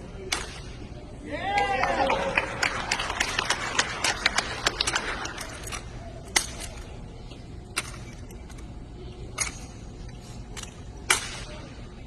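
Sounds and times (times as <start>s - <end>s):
crowd noise: 0.0s - 12.0s.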